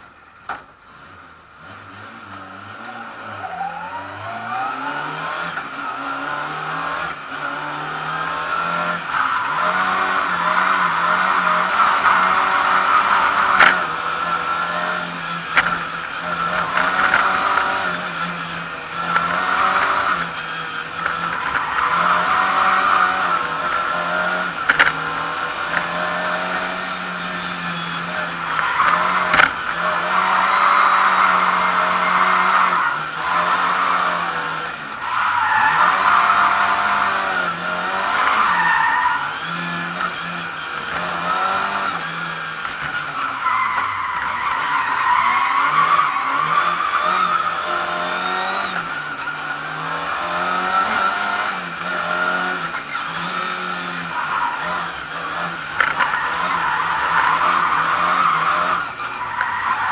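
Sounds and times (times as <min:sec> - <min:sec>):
car engine revving: 0:00.0 - 0:59.9
tyres squealing: 0:05.6 - 0:59.9.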